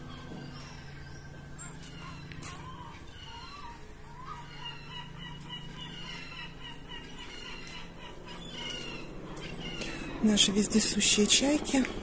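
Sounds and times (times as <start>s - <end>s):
gulls calling: 0.0s - 12.0s
low steady hum: 0.0s - 12.0s.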